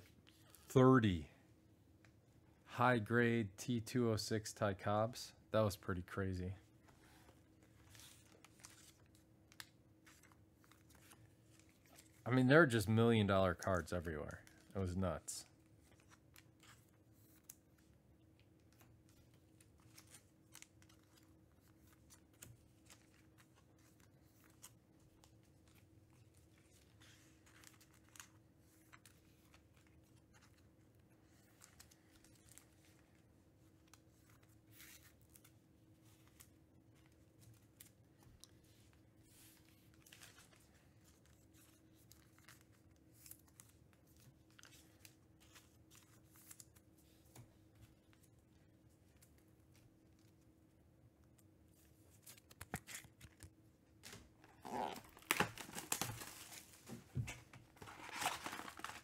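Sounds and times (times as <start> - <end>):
wrappers and cards crinkling: 7.4 - 12.8, 15.5 - 50.6, 51.3 - 59.0.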